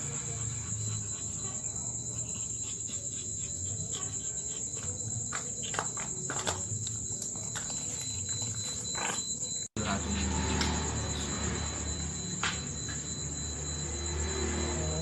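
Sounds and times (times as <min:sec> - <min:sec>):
night insects chirring: 0:00.0 - 0:15.0.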